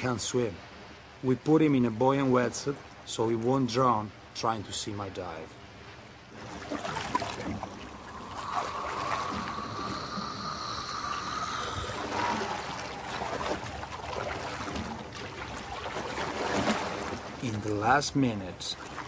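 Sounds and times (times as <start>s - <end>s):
water sloshing around a boat: 0.0s - 19.0s.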